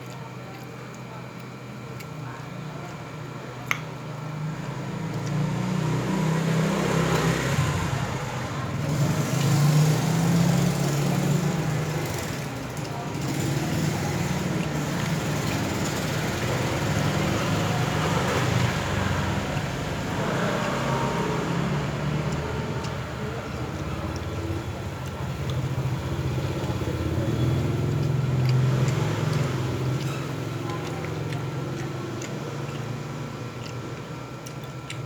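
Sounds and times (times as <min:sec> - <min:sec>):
vehicle engines rumbling: 0:04.7 - 0:35.0.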